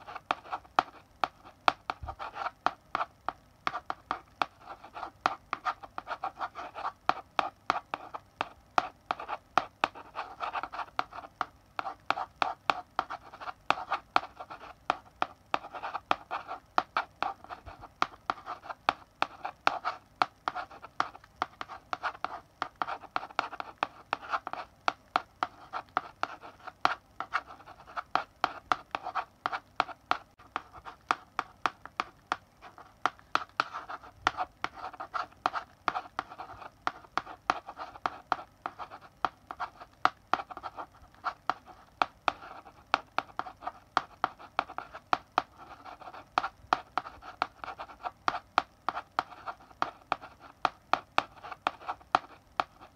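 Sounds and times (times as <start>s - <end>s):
chalk scratching on blackboard: 0.0s - 52.9s
chalk tapping on blackboard: 0.0s - 52.9s.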